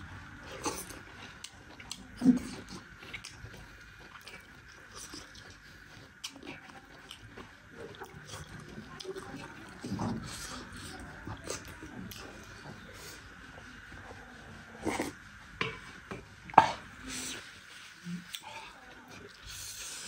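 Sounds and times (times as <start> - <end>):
chewing: 0.3 - 20.0.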